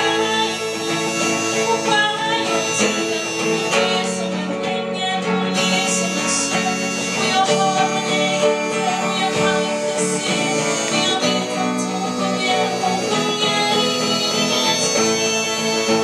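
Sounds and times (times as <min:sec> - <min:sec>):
guitar chords: 0:00.0 - 0:16.0
woman singing: 0:00.0 - 0:16.0.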